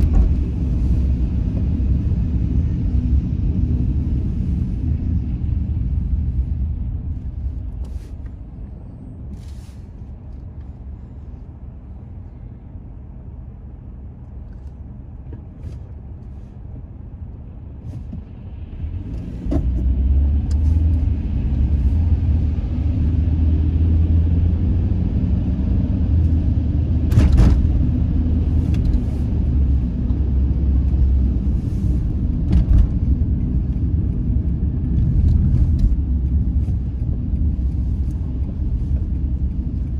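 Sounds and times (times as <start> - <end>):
car engine rumble and road noise: 0.0 - 39.9.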